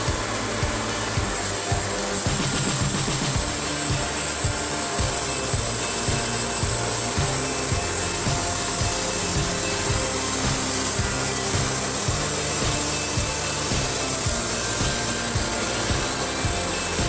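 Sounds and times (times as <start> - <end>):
background music with steady beat: 0.0 - 17.0
saw cutting through wood: 0.0 - 17.0.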